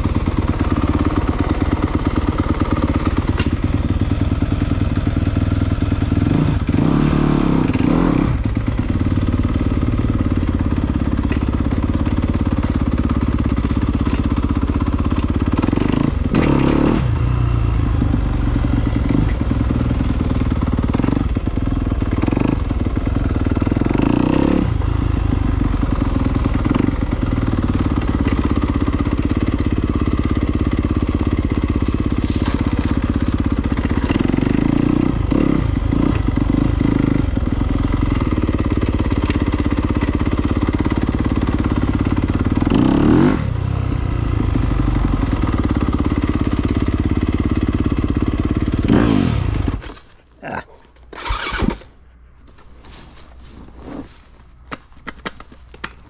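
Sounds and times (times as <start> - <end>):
dirt bike engine revving: 0.1 - 51.9.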